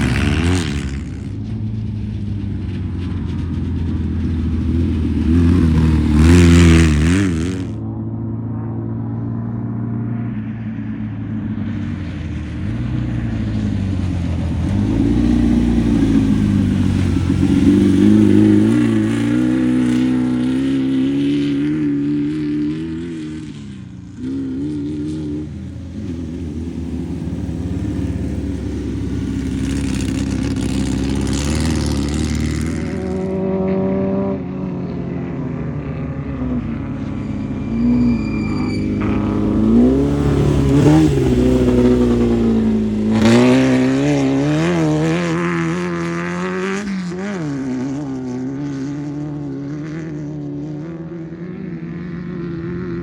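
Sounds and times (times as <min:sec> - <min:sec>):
race car engines revving: 0:00.0 - 0:53.0.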